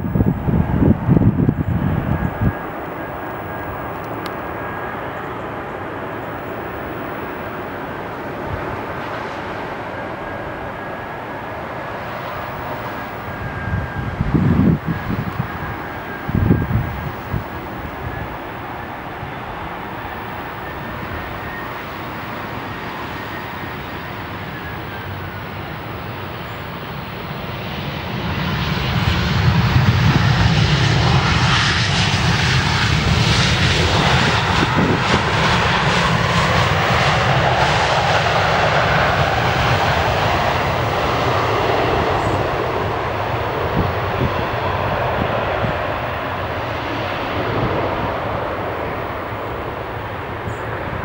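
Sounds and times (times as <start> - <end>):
jet airliner landing rumble: 0.0 - 51.0.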